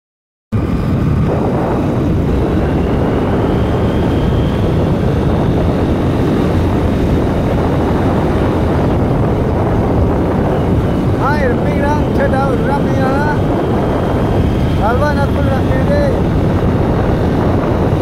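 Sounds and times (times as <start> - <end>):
wind rushing over microphone: 0.5 - 18.0
motorcycle engine running: 0.6 - 18.0.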